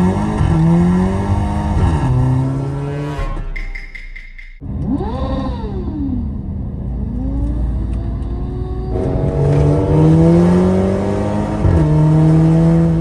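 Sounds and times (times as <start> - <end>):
car engine accelerating: 0.0 - 3.8, 4.6 - 13.0.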